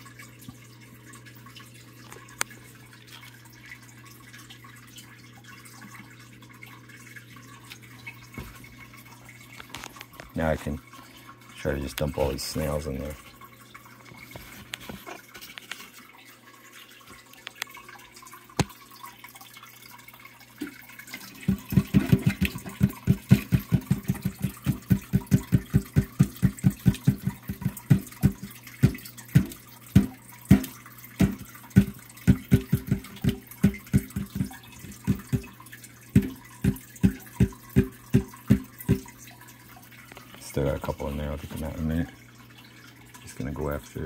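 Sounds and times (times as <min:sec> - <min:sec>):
water glugging and plopping: 0:00.0 - 0:44.0.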